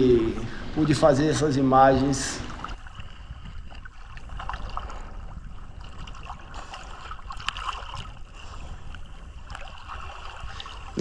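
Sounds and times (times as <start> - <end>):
sea water gurgling and sloshing: 0.0 - 11.0.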